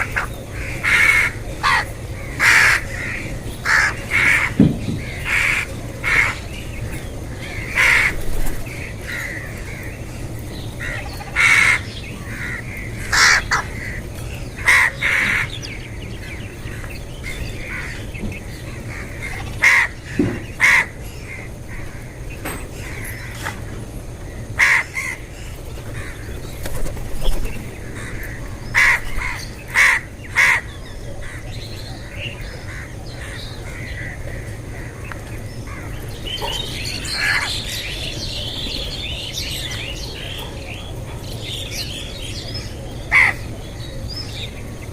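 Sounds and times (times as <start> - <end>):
crows cawing: 0.0 - 26.9, 27.7 - 38.3, 43.1 - 43.5
low background hum: 0.0 - 44.9.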